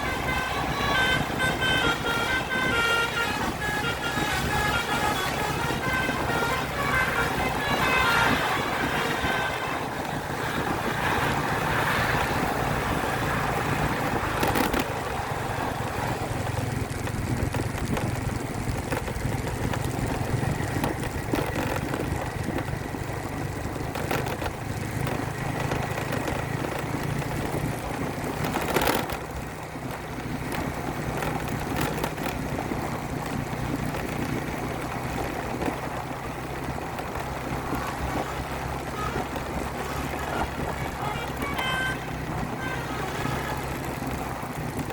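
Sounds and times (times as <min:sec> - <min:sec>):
road noise: 0:00.0 - 0:44.9
vehicle engine running: 0:00.0 - 0:44.9.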